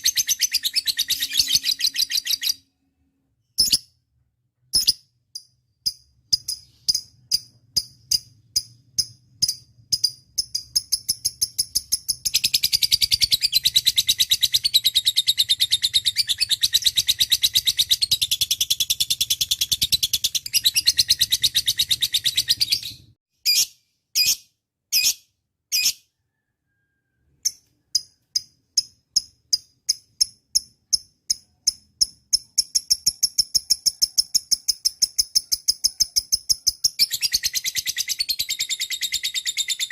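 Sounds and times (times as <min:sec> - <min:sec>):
bird chirping: 0:00.0 - 0:04.0, 0:04.6 - 0:39.9.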